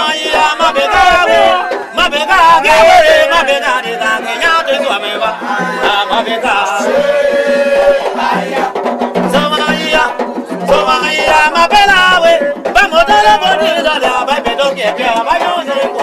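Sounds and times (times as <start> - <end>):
percussion: 0.0 - 16.0
person singing: 0.0 - 16.0.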